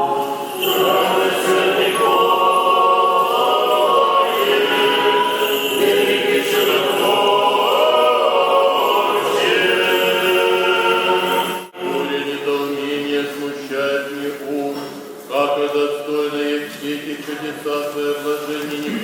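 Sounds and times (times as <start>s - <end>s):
choir singing unaccompanied chant: 0.0s - 19.0s.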